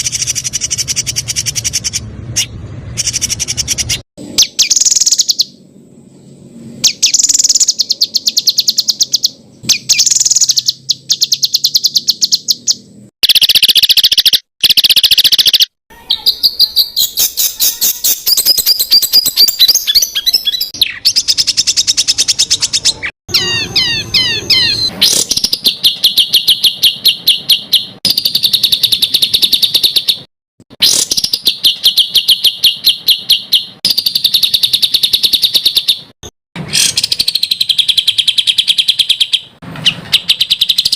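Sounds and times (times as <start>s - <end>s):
rapid songbird trills: 0.0s - 5.6s, 6.8s - 36.1s, 36.8s - 40.9s.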